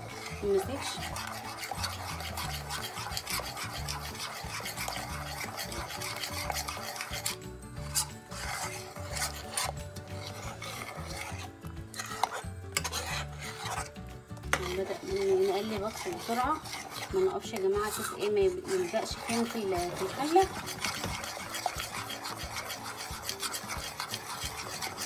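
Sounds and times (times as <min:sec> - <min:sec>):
spoon scraping bottom of pot: 0:00.0 - 0:25.0.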